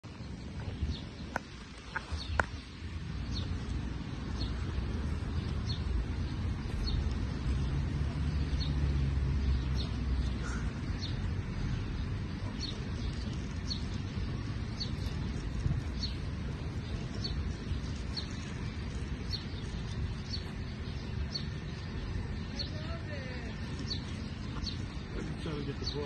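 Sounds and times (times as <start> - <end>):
bird chirping: 0.1 - 26.0.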